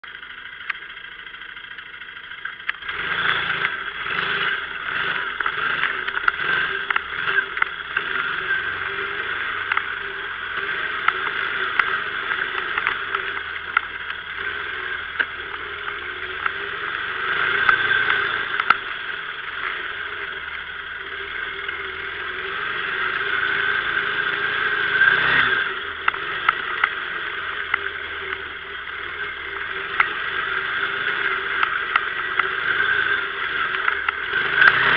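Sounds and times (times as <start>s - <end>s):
quad bike engine revving: 0.0s - 34.9s.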